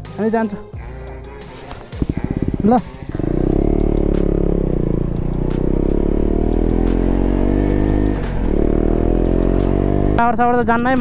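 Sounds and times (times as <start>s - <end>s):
motorcycle engine running: 1.3s - 11.0s.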